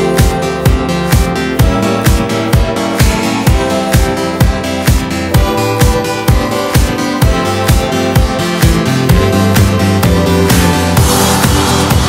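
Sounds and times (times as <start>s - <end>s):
kick drum beat: 0.0s - 12.0s.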